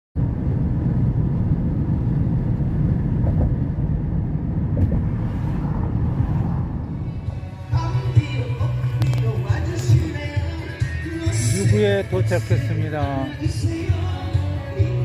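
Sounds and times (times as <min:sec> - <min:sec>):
car road and engine rumble: 0:00.2 - 0:15.0.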